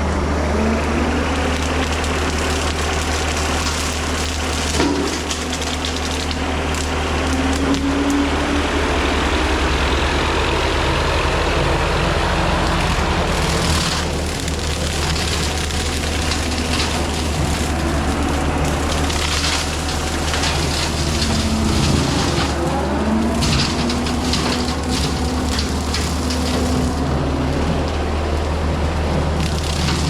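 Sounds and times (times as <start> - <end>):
diesel engine running: 0.0 - 30.0
brush and wood crackling and snapping: 1.2 - 8.8, 12.6 - 30.0.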